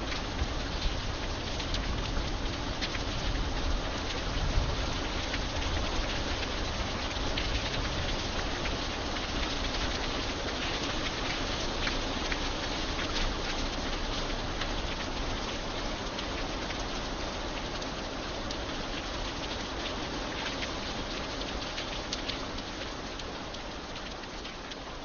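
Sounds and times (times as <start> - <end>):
rain hissing: 0.0 - 25.0
raindrops ticking on hard surface: 0.0 - 25.0.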